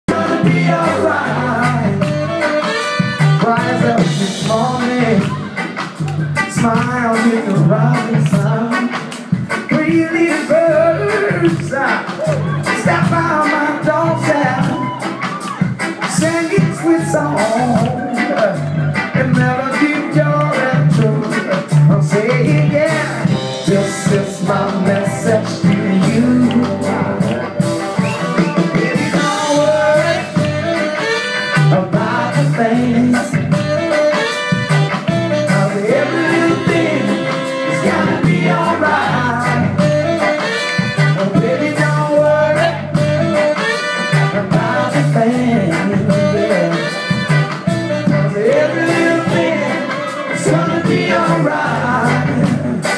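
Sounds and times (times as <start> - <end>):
bass line: 0.0 - 52.9
person singing: 0.1 - 5.8, 6.4 - 34.4, 35.3 - 52.9
reggae band playing: 0.1 - 52.9.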